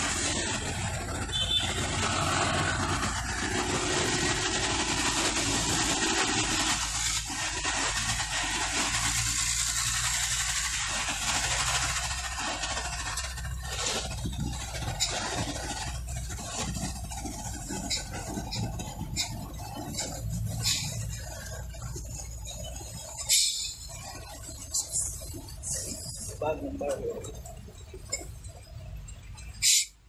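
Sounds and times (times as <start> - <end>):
road noise: 0.0 - 30.0
vehicle engine drone: 0.0 - 30.0.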